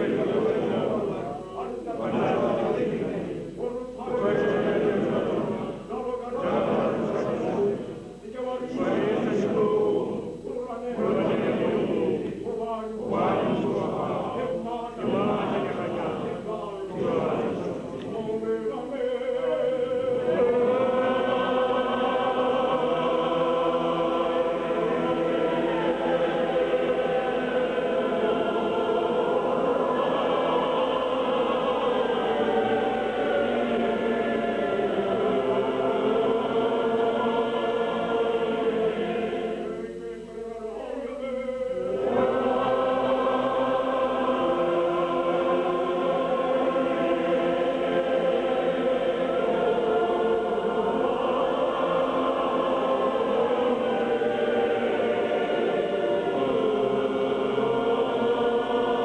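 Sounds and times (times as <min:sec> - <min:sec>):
congregation singing: 0:00.0 - 0:59.0.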